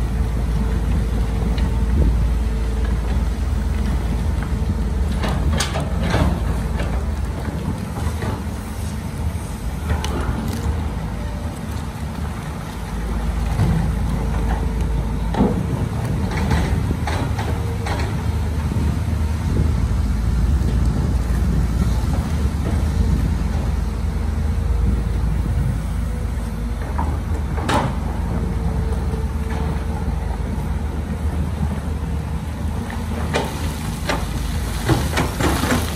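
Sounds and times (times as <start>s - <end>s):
diesel engine rumbling: 0.0s - 35.9s.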